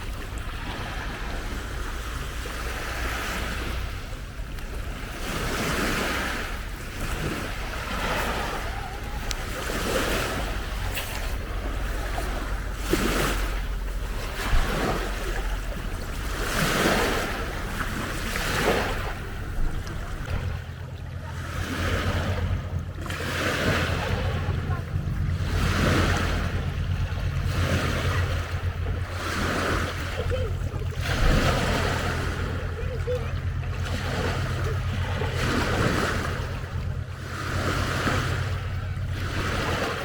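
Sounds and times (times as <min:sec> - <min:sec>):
low steady hum: 0:00.0 - 0:40.0
waves lapping against shore: 0:00.0 - 0:40.0.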